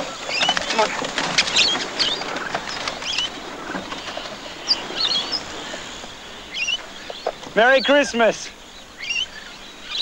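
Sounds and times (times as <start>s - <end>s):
small parrots chirping: 0.0s - 10.0s.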